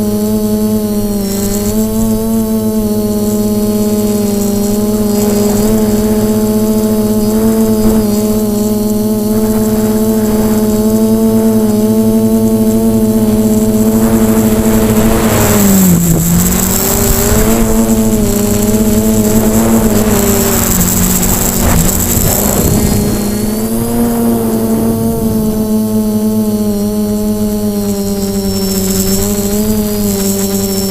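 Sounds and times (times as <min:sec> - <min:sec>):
drone propellers whining: 0:00.0 - 0:30.9
rush of wind: 0:00.0 - 0:30.9.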